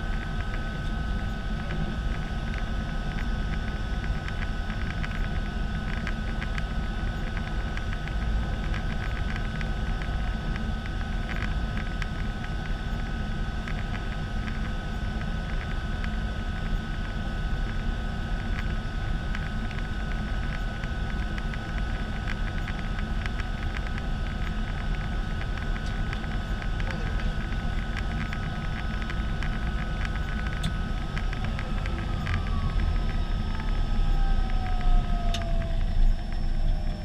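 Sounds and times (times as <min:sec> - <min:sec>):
high turbine whine: 0:00.0 - 0:37.0
turboprop engine running: 0:00.0 - 0:37.0.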